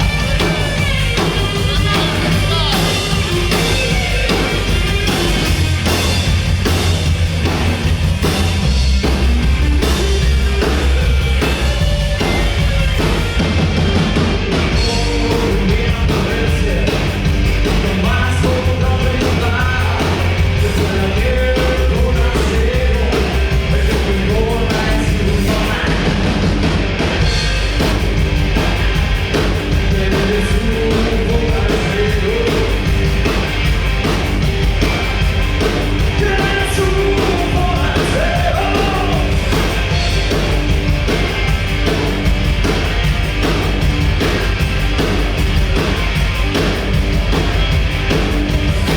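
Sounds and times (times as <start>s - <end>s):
loud rock music: 0.0s - 48.9s.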